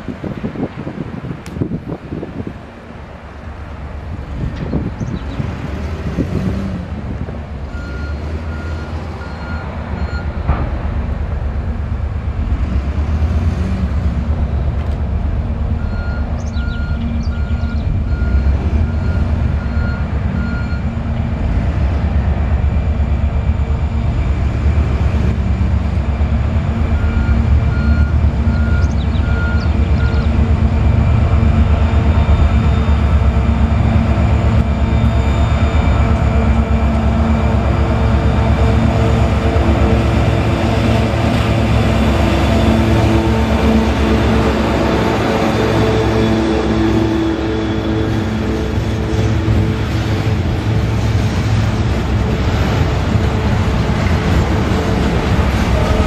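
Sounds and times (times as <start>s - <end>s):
diesel locomotives rumbling: 0.0s - 56.0s.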